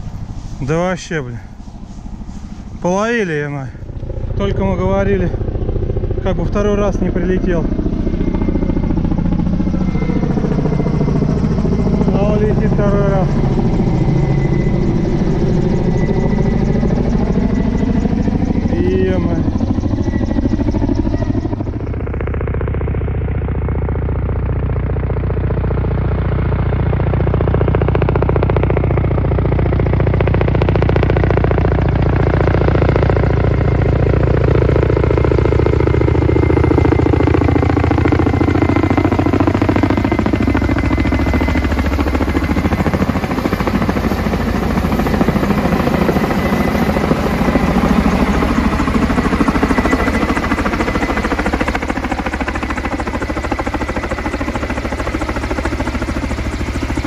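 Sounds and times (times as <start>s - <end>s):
helicopter rotor chopping rumble: 0.0s - 57.0s.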